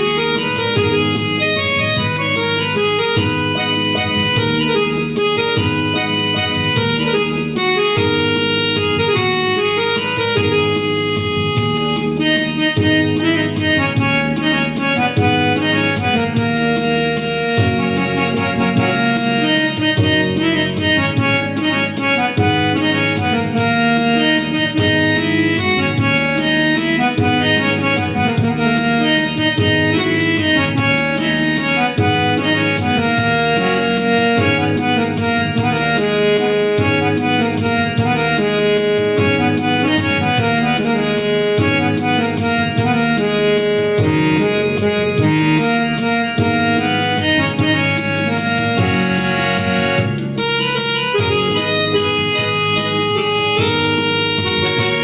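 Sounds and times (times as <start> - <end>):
drum and bass accompaniment rhythm: 0.0 - 55.0
keyboard harmonium melody: 0.0 - 55.0.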